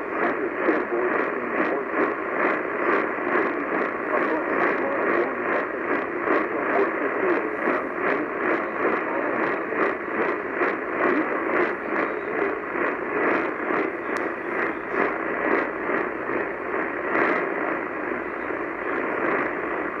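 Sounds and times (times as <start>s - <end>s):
interference clicks: 0.0s - 20.0s
radio static hiss: 0.0s - 20.0s.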